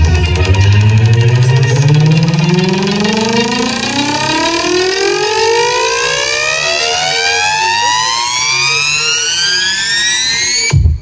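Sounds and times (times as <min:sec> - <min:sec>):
siren wail: 0:00.0 - 0:10.8.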